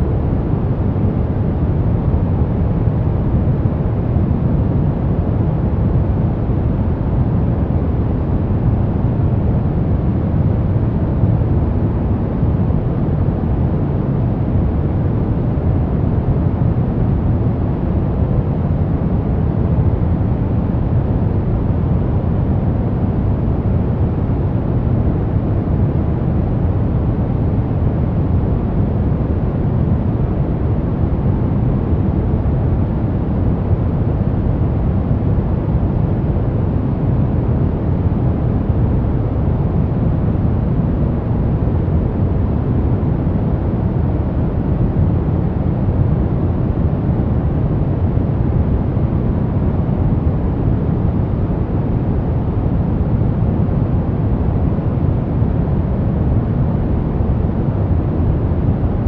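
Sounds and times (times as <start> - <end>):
steady white noise: 0.0 - 59.0.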